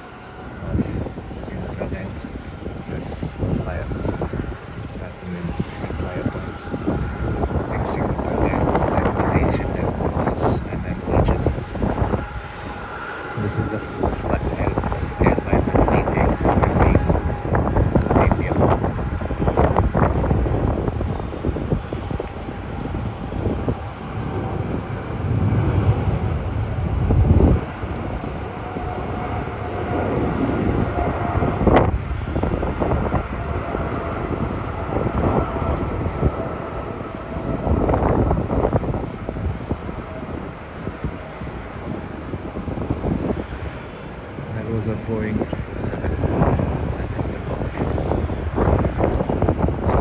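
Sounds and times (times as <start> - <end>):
jet engines roaring: 0.0 - 50.0
wind buffeting microphone: 0.0 - 50.0.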